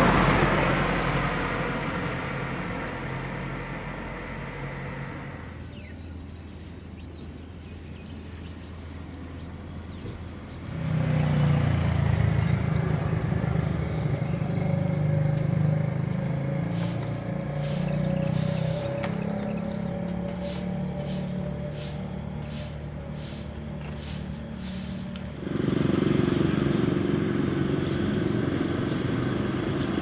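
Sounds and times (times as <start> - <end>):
vehicle engine running: 0.0 - 6.0, 9.2 - 30.0
birds chirping: 0.0 - 30.0.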